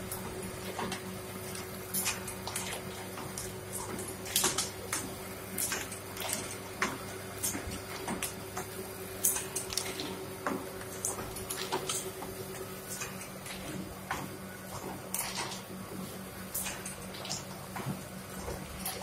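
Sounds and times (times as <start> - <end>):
motor hum: 0.0 - 19.0.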